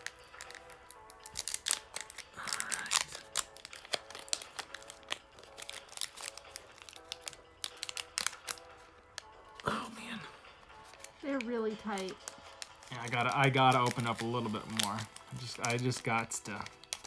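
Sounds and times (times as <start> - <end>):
foil wrapper crinkling and tearing: 0.0 - 9.6, 10.8 - 17.0
background music with held tones: 0.0 - 17.0.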